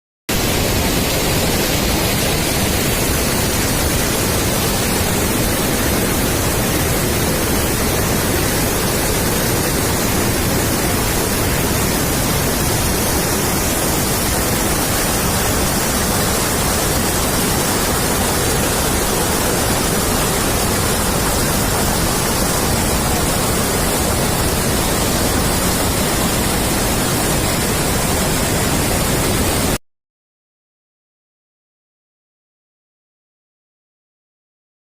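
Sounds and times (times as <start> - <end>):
fast-flowing water rushing: 0.3 - 29.8.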